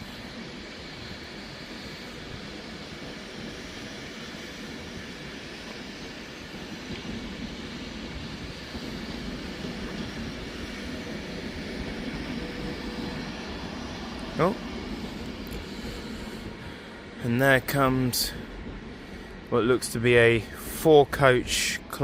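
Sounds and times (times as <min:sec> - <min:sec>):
train running: 0:00.0 - 0:22.0.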